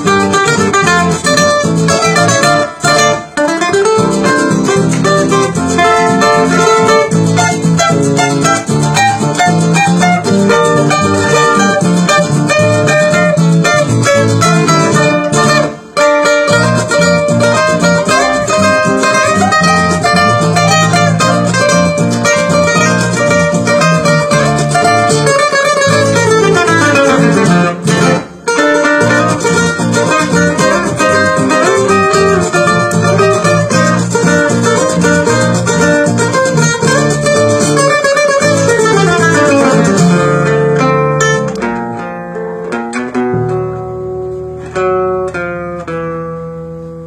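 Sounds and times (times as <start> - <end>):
fingerpicked acoustic guitar: 0.0 - 47.0.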